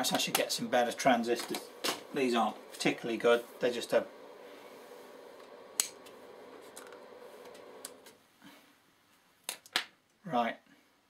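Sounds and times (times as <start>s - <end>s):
faint steady hum: 0.0s - 9.3s.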